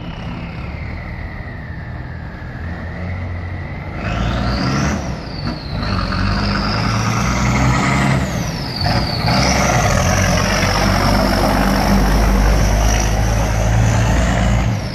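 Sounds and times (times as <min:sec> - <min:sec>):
diesel truck engine rumbling: 0:00.0 - 0:14.9.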